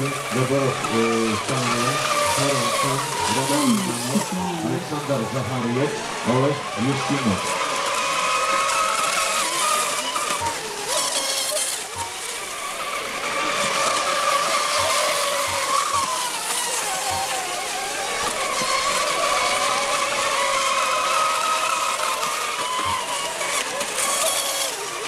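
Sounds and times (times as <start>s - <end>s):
high-revving boat motors: 0.0s - 25.0s.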